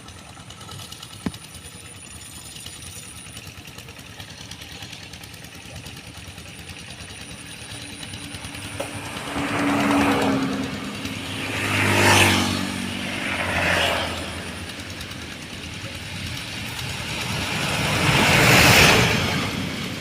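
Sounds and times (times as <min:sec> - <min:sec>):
old tractor engine running: 0:00.0 - 0:20.0.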